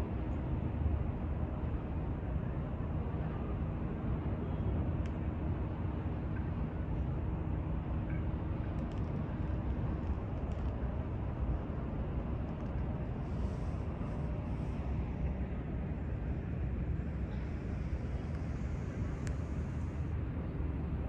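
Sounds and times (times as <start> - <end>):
faint machinery hum: 0.0 - 21.0
low outdoor rumble: 0.0 - 21.0.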